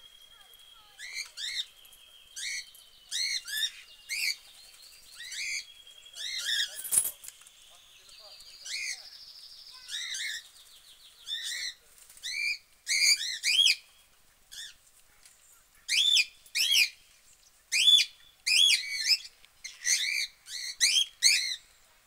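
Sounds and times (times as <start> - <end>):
budgerigars chirping: 0.3 - 6.8, 7.7 - 13.9, 15.8 - 17.0, 17.7 - 21.6.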